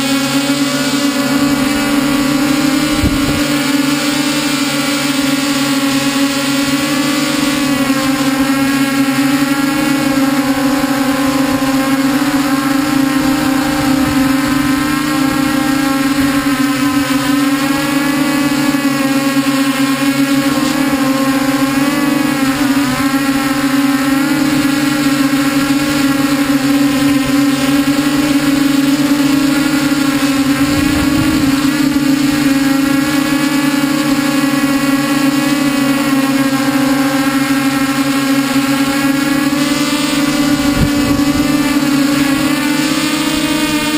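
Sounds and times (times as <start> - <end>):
drone motors buzzing: 0.0 - 43.9.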